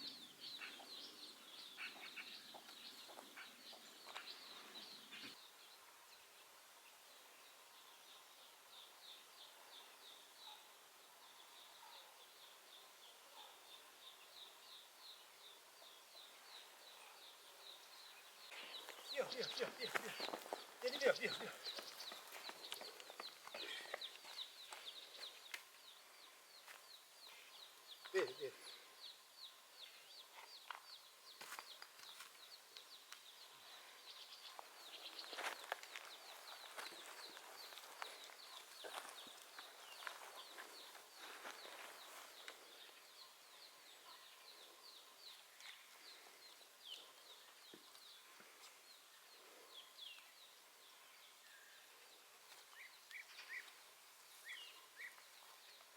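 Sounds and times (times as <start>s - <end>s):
faint outdoor hiss: 0.0s - 55.9s
small birds chirping: 0.0s - 55.9s.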